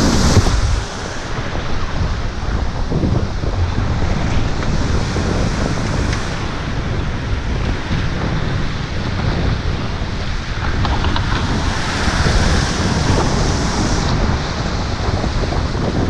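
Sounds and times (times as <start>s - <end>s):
whitewater rushing: 0.0s - 7.4s, 8.9s - 16.0s
wind buffeting microphone: 0.0s - 16.0s.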